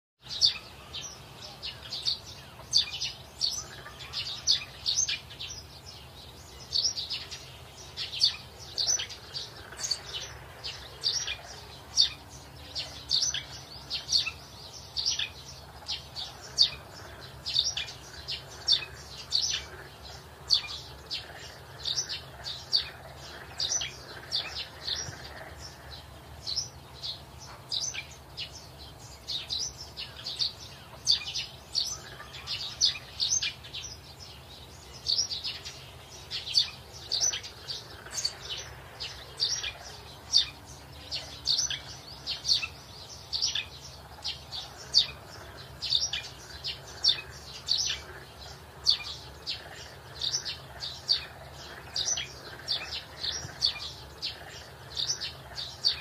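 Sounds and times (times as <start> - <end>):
birds chirping: 0.2 - 56.0
faint low background hum: 0.3 - 56.0.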